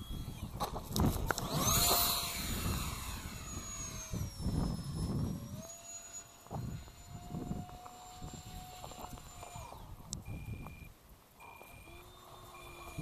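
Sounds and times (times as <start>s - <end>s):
wind buffeting microphone: 0.0s - 10.9s
electric jet fan whine: 0.0s - 13.0s.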